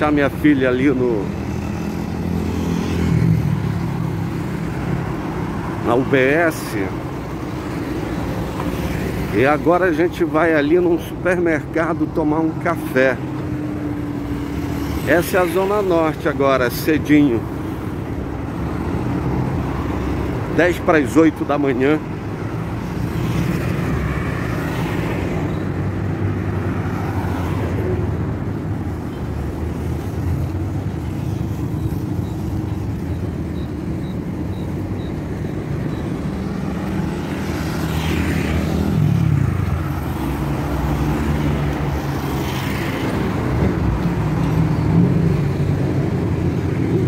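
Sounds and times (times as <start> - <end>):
street traffic rumble: 0.0 - 47.0.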